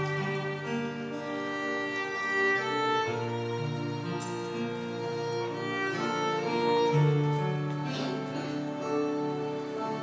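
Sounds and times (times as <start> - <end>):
acoustic guitar: 0.0 - 10.0
bowed violin melody: 0.0 - 10.0.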